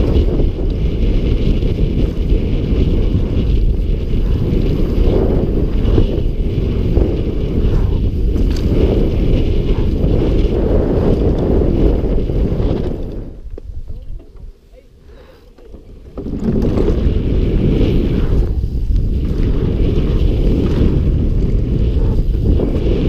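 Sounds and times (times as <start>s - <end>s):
bike tyres rattling on dirt trail: 0.0s - 23.0s
wind buffeting microphone: 0.0s - 23.0s.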